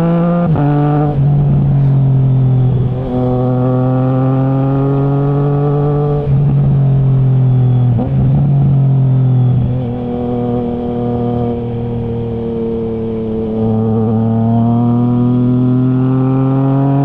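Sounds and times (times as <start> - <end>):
motorcycle engine through loud exhaust: 0.0 - 17.0.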